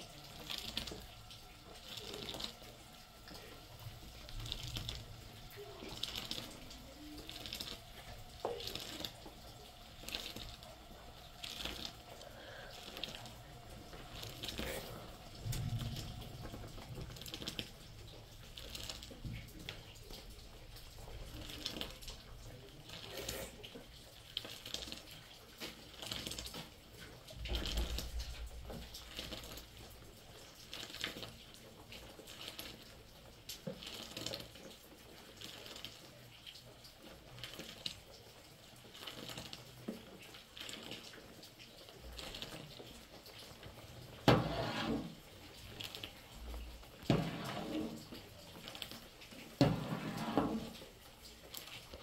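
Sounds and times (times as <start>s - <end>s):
water splashing and trickling: 0.0s - 52.0s.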